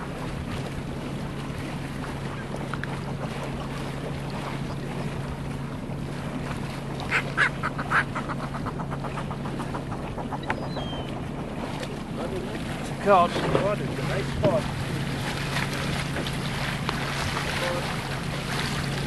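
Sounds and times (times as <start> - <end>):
boat engine humming: 0.0 - 19.0
sea water: 0.0 - 19.0.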